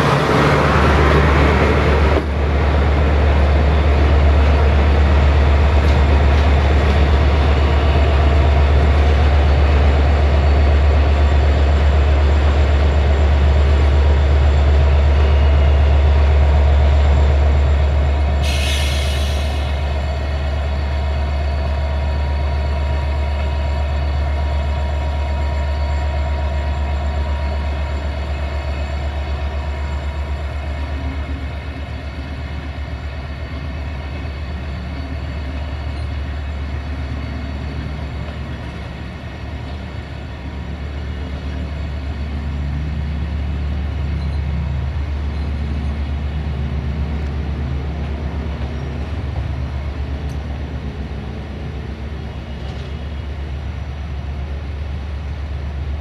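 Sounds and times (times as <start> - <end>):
locomotive high whine: 0.0 - 56.0
locomotive low hum: 0.0 - 56.0.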